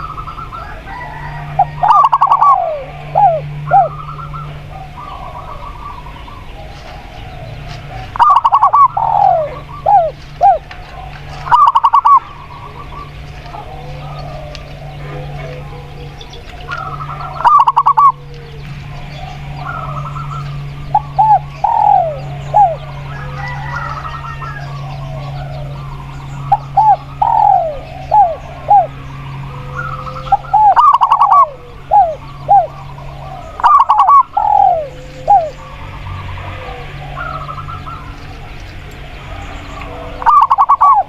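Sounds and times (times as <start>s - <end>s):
doves cooing: 0.0s - 41.0s
rapidly pulsing bursts: 0.0s - 41.0s
steady low hum: 0.0s - 41.0s.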